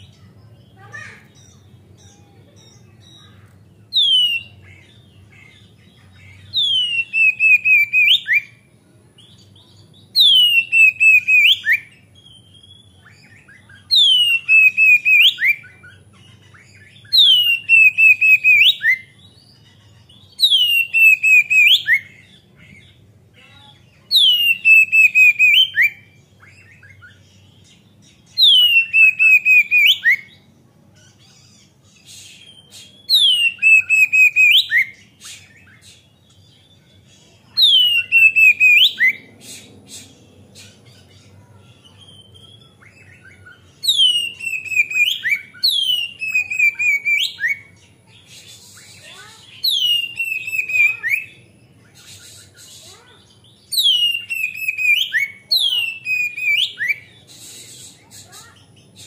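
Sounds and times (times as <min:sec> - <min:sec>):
bird singing whistles and warbles: 0:00.0 - 0:59.0.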